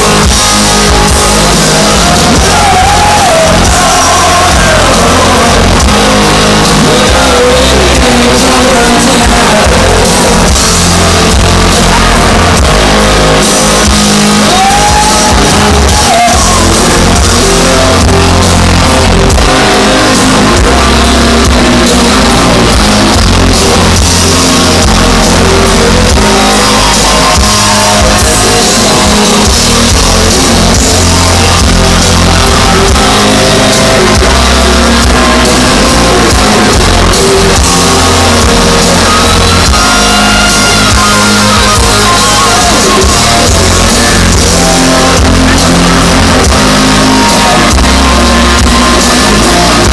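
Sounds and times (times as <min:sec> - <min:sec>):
live heavy rock band: 0:00.0 - 0:49.9.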